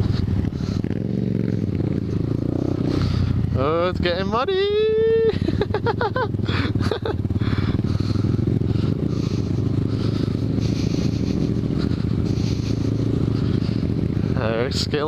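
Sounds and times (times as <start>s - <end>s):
motorcycle engine drone: 0.0s - 15.0s.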